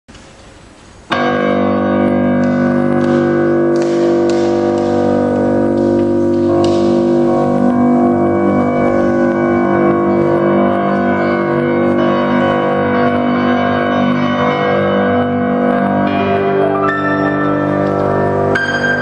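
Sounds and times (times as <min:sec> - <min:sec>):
grand piano chords and notes: 0:00.1 - 0:19.0.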